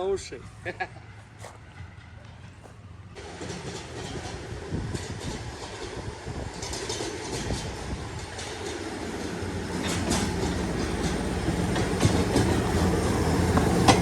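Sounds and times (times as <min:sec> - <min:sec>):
rail vehicle engine hum: 0:00.0 - 0:14.0
wheels clattering over rails: 0:01.8 - 0:14.0.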